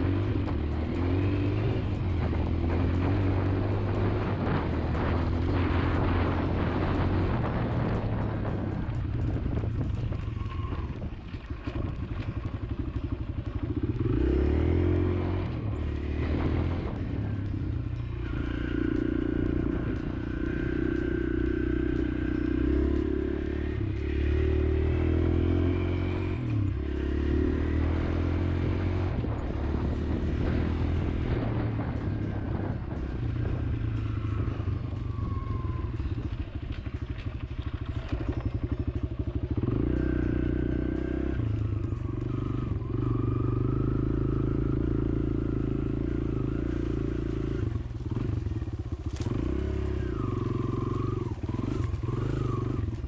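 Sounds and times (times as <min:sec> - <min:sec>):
pit bike engine revving: 0:00.0 - 0:53.0.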